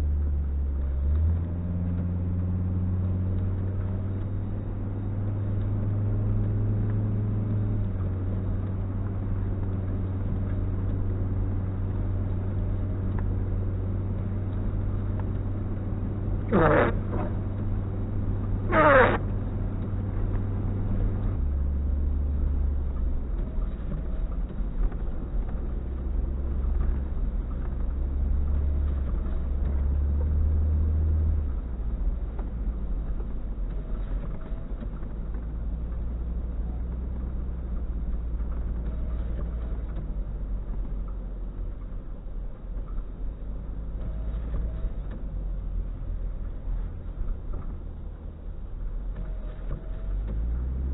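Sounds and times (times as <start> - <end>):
vehicle engine rumble: 0.0 - 50.9.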